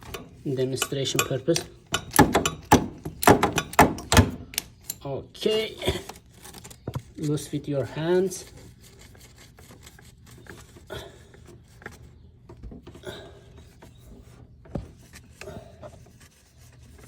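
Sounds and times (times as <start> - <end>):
oil filter rubbing and scraping: 0.0 - 3.1, 5.4 - 12.5, 13.5 - 17.0.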